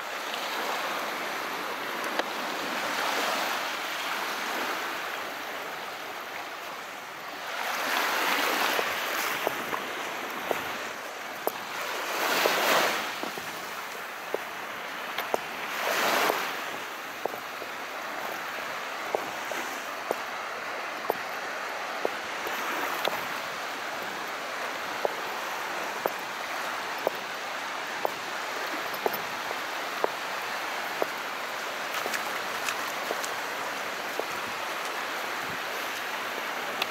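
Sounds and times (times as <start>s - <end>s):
small waves breaking: 0.0s - 36.9s
sea water washing: 0.5s - 36.9s.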